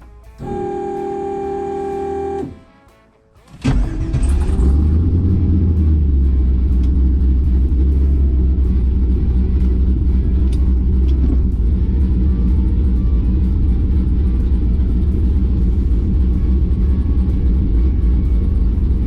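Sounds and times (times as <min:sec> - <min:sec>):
race car engine rumbling: 0:00.0 - 0:02.6, 0:03.4 - 0:19.0.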